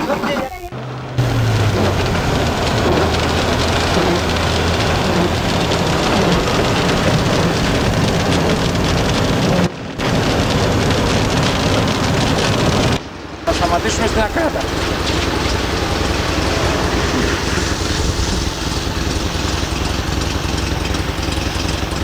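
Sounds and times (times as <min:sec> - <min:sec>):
road and wind noise: 0:00.1 - 0:22.0
low engine hum: 0:00.7 - 0:22.0.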